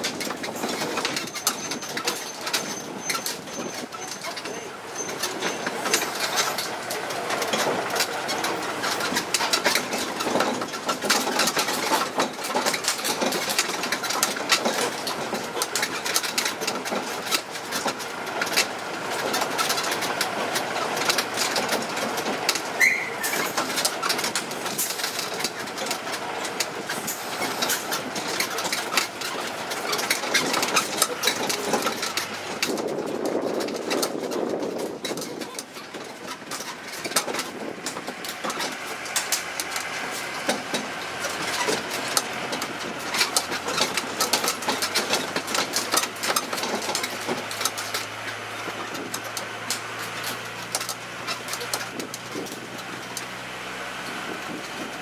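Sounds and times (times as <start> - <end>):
carriages rattling and clicking: 0.0 - 55.0
tractor engine running: 0.0 - 55.0.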